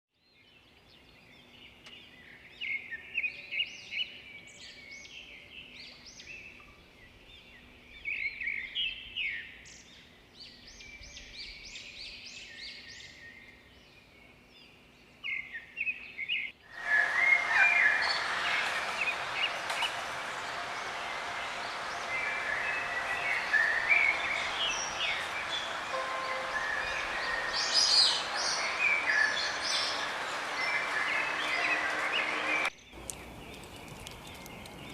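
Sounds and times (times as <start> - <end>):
songbirds chirping: 0.2 - 34.9
many birds singing: 0.3 - 34.9.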